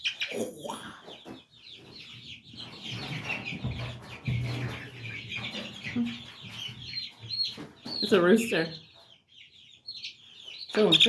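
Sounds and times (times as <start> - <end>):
chicks peeping and clucking: 0.0 - 11.0.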